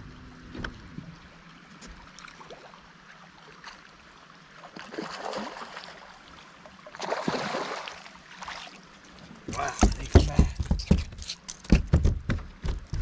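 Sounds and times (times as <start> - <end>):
water splashing and gurgling: 0.0 - 10.6.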